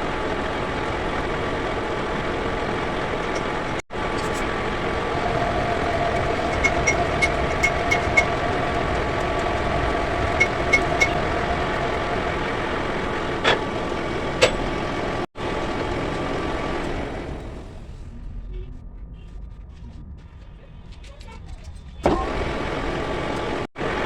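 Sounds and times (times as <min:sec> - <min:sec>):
machinery humming: 0:00.0 - 0:18.0, 0:22.0 - 0:24.0.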